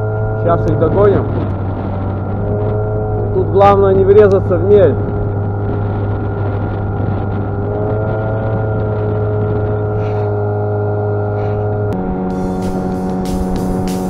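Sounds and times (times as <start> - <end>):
outboard motor droning: 0.0 - 14.0
steady higher tone: 0.0 - 14.0.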